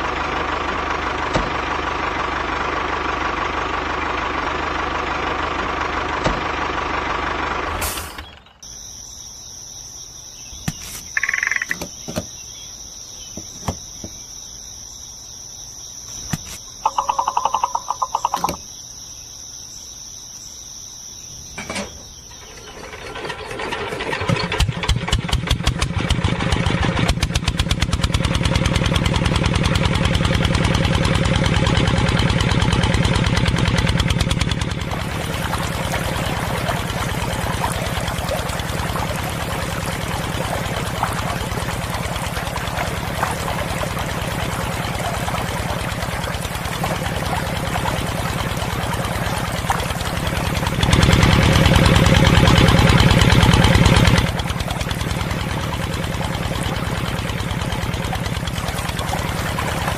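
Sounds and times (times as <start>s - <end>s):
stationary engine chugging: 0.0s - 9.1s, 16.0s - 19.0s, 21.3s - 59.9s
tractor engine idling: 0.0s - 19.4s, 21.3s - 59.9s.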